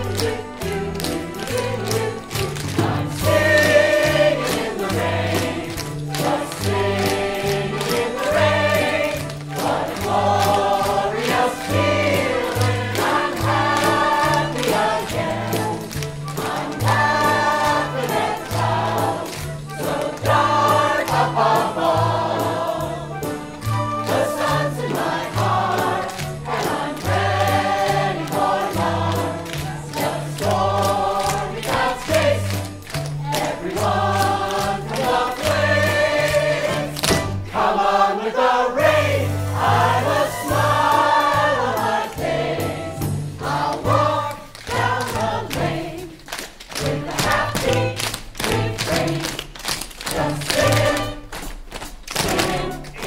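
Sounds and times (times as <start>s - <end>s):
instrumental accompaniment with beat: 0.0s - 38.0s, 38.8s - 53.0s
group singing musical theatre song: 0.0s - 53.0s.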